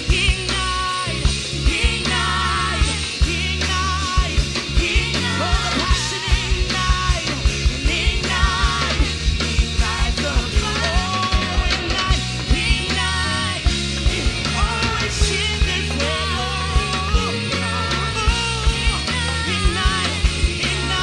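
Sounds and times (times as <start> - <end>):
drum kit beat: 0.0 - 21.0
live rock band playing: 0.0 - 21.0
sung melody line: 0.0 - 21.0.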